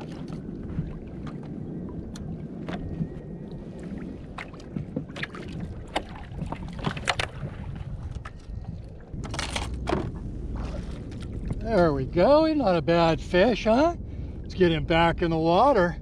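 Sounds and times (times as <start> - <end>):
water noise: 0.0 - 16.0
wind on microphone: 0.0 - 16.0.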